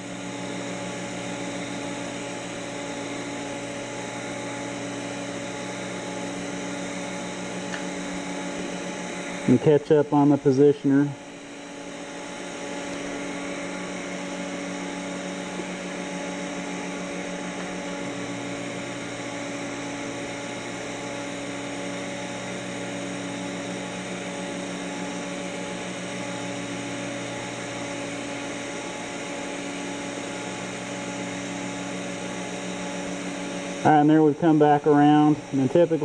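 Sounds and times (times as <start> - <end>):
welding machine hum with tones: 0.0 - 36.0.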